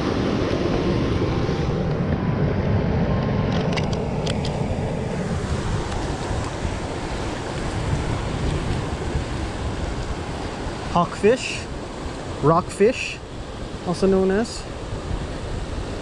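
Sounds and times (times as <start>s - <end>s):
ocean surf breaking on rocks: 0.0s - 2.2s, 3.7s - 16.0s
wind buffeting microphone: 0.0s - 10.9s, 13.2s - 16.0s.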